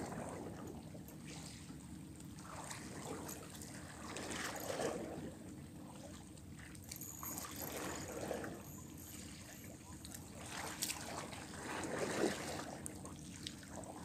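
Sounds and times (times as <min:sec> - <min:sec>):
water lapping against rocks: 0:00.0 - 0:14.0.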